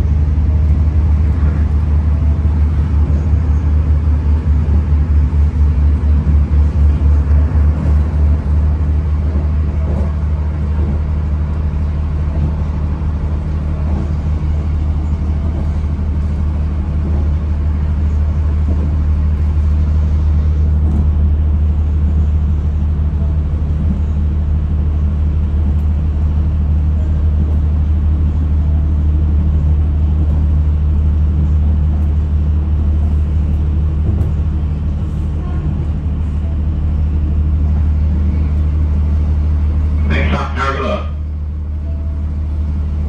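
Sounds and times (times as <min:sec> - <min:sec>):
train rumbling from inside carriage: 0:00.0 - 0:43.0.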